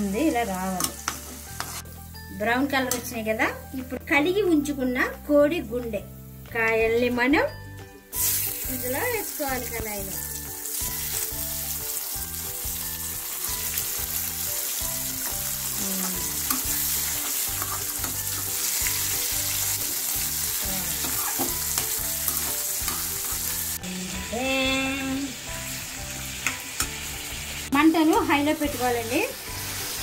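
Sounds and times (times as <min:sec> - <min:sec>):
meat sizzling in hot oil: 0:00.0 - 0:02.3, 0:08.1 - 0:30.0.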